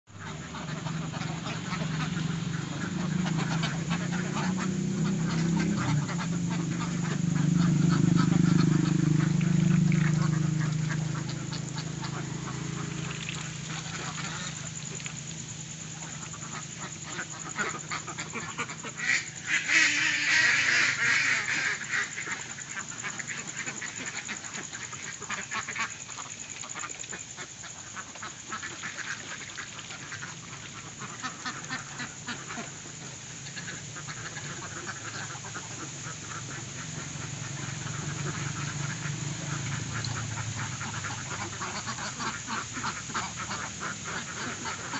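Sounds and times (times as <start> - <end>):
low steady hum: 0.1 - 44.9
ducks quacking: 0.2 - 44.9.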